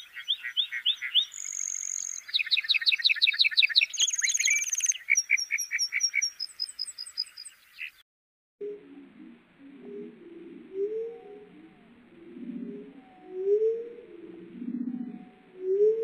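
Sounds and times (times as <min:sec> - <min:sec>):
bird singing varied song: 0:00.0 - 0:08.0, 0:10.8 - 0:16.0.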